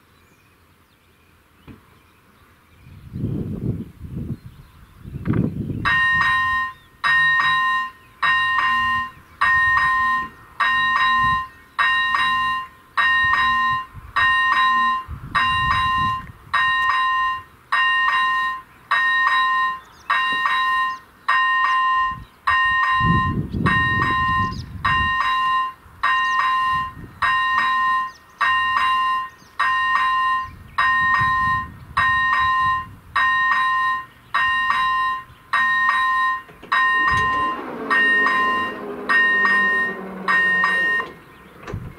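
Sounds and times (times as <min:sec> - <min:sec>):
level-crossing bell ringing: 0:05.9 - 0:41.2.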